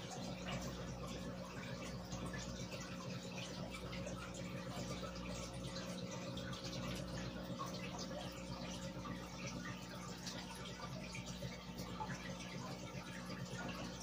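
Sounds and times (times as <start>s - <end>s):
aquarium air bubbling: 0.0s - 14.0s.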